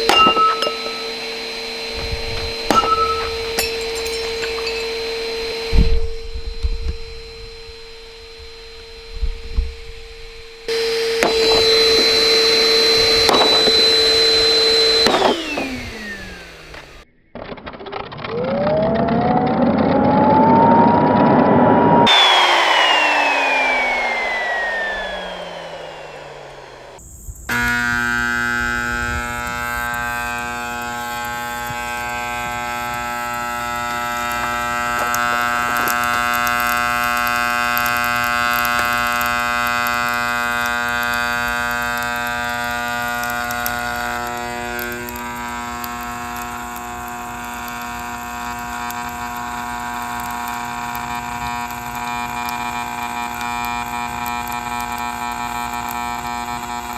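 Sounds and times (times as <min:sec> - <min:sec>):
steady electrical buzz: 0:00.0 - 0:17.0, 0:22.1 - 0:56.9
vacuum cleaner motor winding down: 0:00.0 - 0:17.1, 0:17.9 - 0:56.9.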